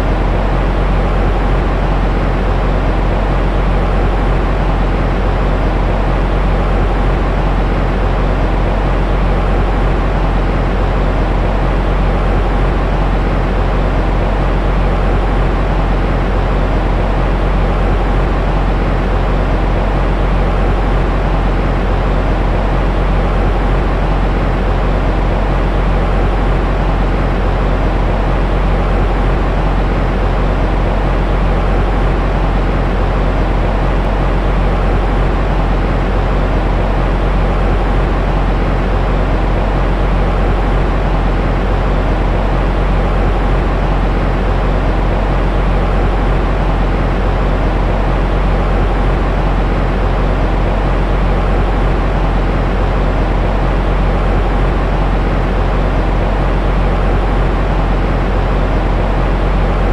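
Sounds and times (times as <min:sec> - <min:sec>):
deep rumbling white noise: 0:00.0 - 0:59.9.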